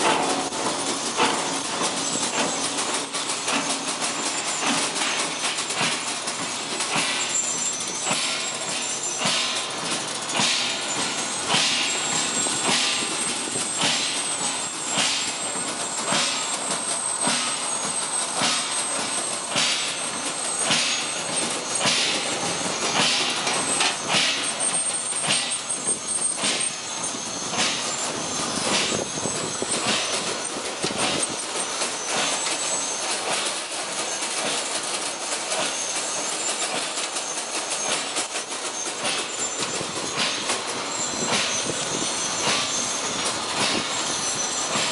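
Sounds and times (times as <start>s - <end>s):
breading machine clatter: 0.0s - 44.9s
machine knocking: 0.0s - 44.9s
thin high squeal: 6.9s - 44.9s.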